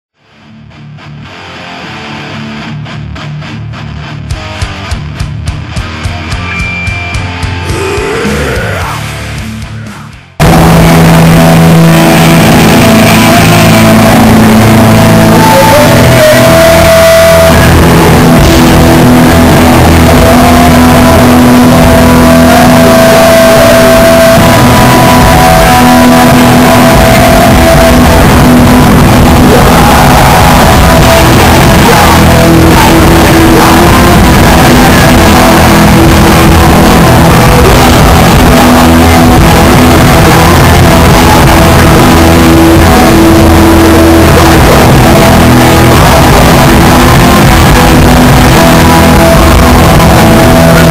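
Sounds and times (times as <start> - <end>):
punk band playing live: 0.2 - 50.9.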